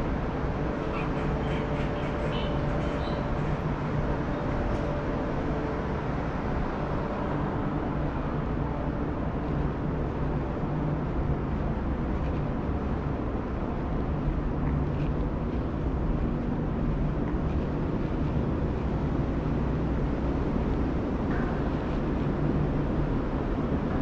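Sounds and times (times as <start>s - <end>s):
metro station hum and rumble: 0.0s - 24.0s.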